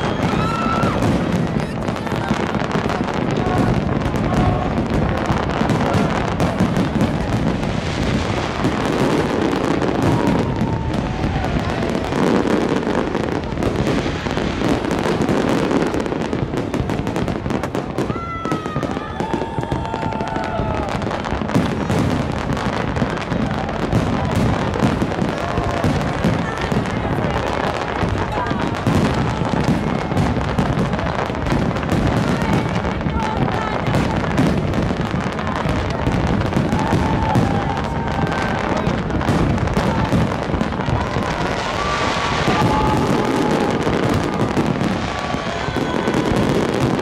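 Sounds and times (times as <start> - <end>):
fireworks crackling and banging: 0.0 - 47.0
voices of onlookers: 0.0 - 47.0.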